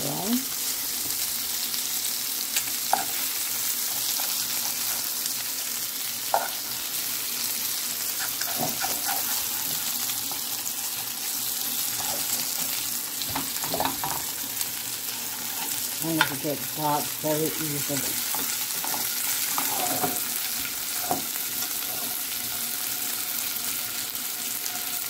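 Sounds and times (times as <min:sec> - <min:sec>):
meat sizzling in a frying pan: 0:00.0 - 0:25.0.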